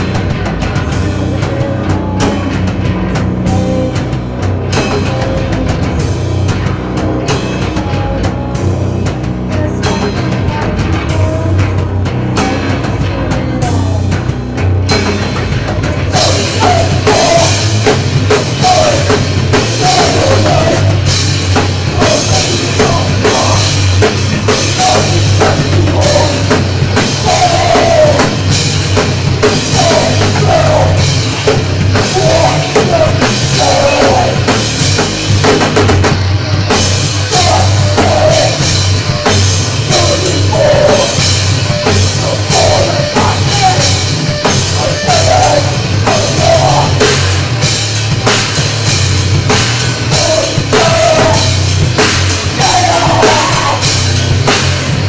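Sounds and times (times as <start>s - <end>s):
distorted bass guitar: 0.0s - 55.0s
pounding drum kit: 0.0s - 55.0s.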